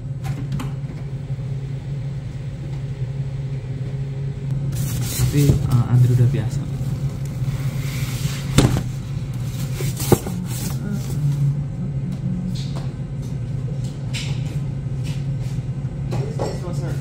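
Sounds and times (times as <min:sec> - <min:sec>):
kitchen equipment hum: 0:00.0 - 0:17.0.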